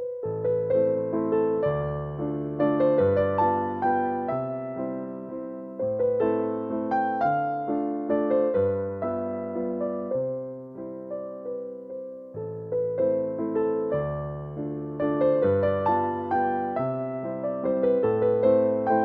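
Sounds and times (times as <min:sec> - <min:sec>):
gentle piano piece: 0:00.0 - 0:19.0.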